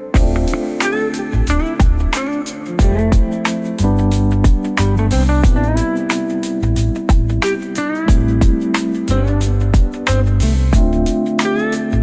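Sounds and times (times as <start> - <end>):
guitar-led music with drums: 0.0 - 12.0.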